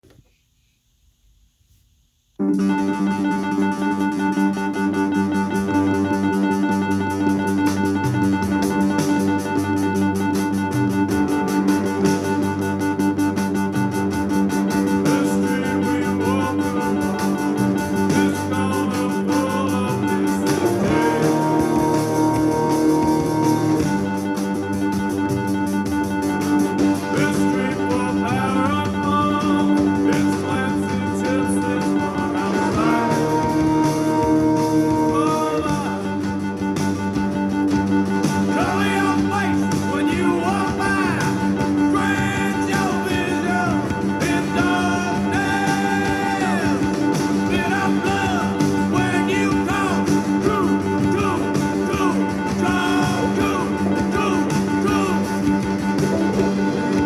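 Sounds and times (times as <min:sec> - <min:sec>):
electronic keyboard chords: 0:02.4 - 0:57.0.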